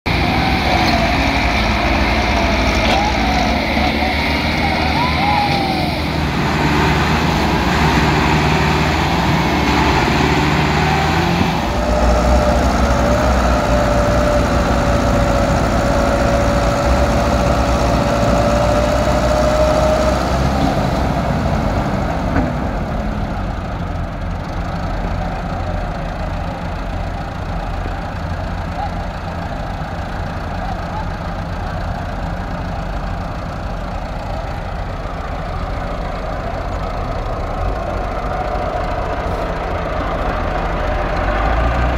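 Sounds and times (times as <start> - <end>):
tractor engines running hard: 0.0 - 41.9.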